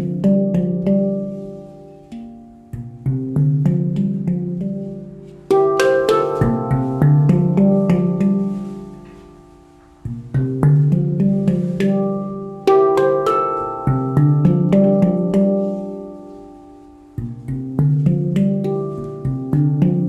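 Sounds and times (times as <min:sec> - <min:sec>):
handpan notes ringing: 0:00.0 - 0:20.0.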